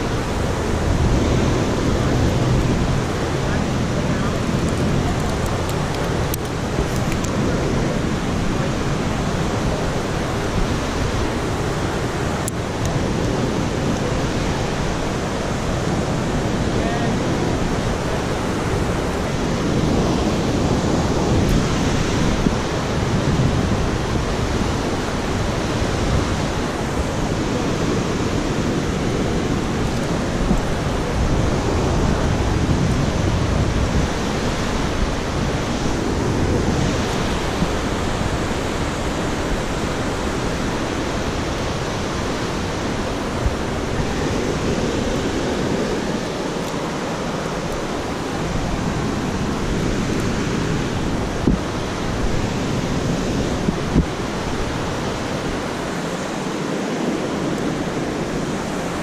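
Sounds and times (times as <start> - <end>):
mountain creek rushing: 0.0 - 59.0.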